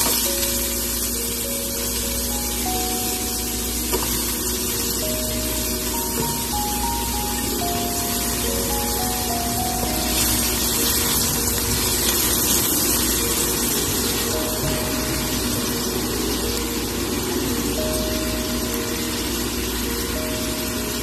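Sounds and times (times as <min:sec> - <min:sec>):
onions sizzling in frying pan: 0:00.0 - 0:21.0
soft background music: 0:00.0 - 0:21.0.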